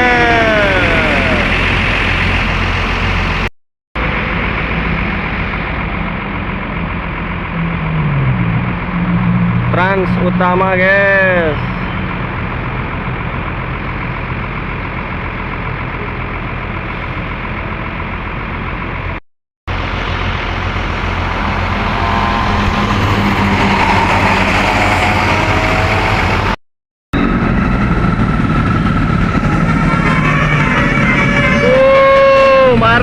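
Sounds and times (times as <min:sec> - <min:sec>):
bus diesel engines rumbling: 0:00.0 - 0:26.6, 0:27.2 - 0:33.0.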